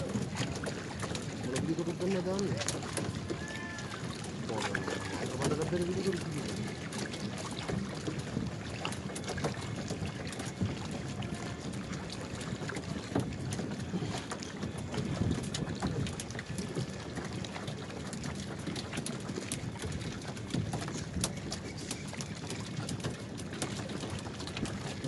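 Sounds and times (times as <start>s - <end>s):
small splashes: 0.0s - 25.0s
water sloshing around canoes: 0.0s - 25.0s
wooden canoes knocking: 0.0s - 25.0s.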